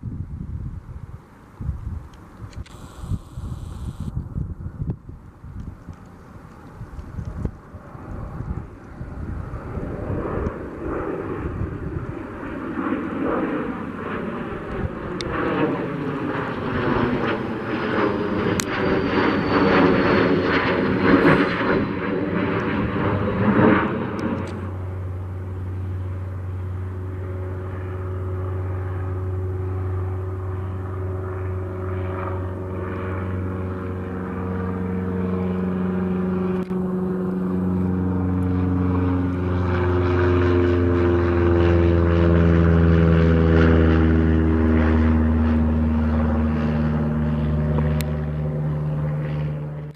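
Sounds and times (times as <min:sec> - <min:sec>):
propeller plane engine droning: 0:00.0 - 0:49.9
jet roaring past: 0:00.8 - 0:49.9.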